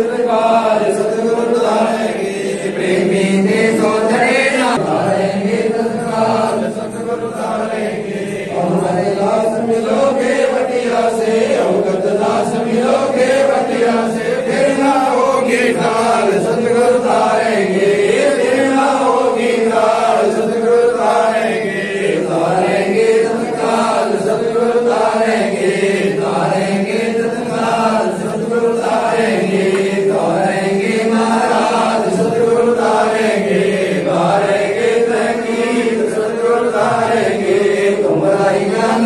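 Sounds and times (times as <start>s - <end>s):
congregation chanting a hymn: 0.0s - 39.0s.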